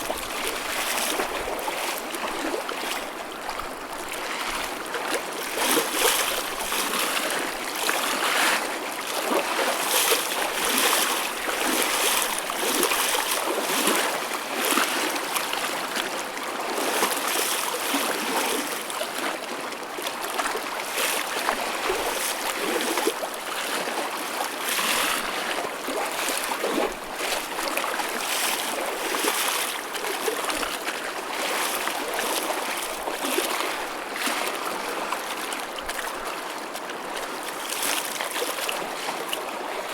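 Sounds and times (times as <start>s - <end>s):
small waves lapping and splashing: 0.0s - 39.9s.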